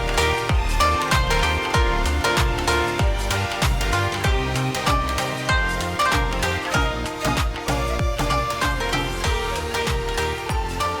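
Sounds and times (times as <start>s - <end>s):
kick drum beat: 0.0s - 10.9s
sustained synth notes: 0.0s - 11.0s.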